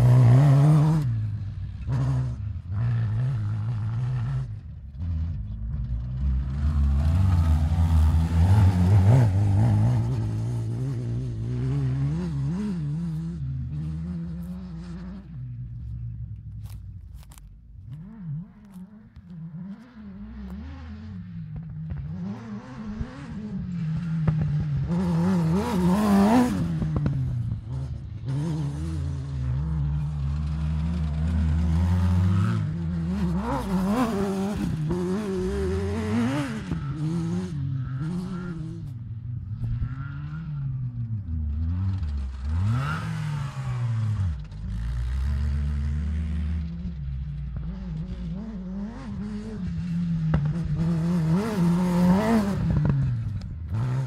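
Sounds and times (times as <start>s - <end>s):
off-road buggy engine revving: 0.0s - 54.0s.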